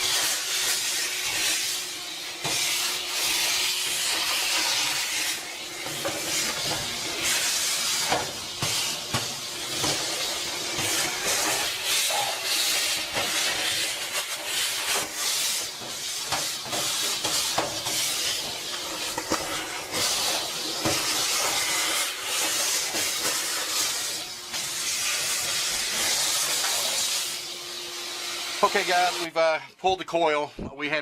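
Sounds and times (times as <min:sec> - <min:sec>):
pump sprayer hissing: 0:00.0 - 0:29.4.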